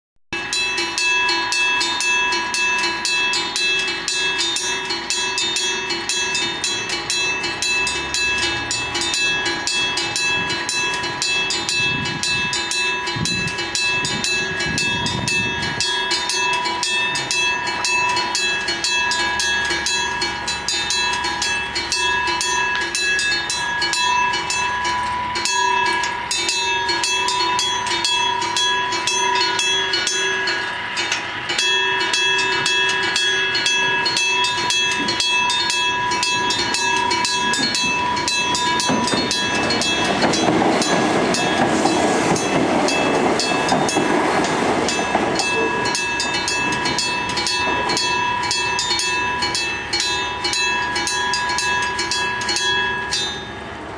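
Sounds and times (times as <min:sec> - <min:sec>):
level crossing alarm ringing: 0:00.4 - 0:53.9
train passing: 0:00.4 - 0:53.9.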